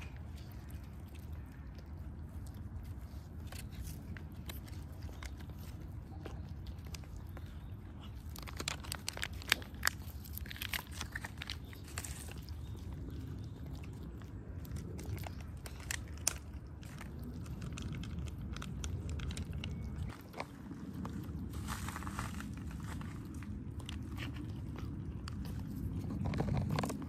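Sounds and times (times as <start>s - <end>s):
cats crunching dry food: 0.0s - 27.0s
low background rumble: 0.0s - 27.0s.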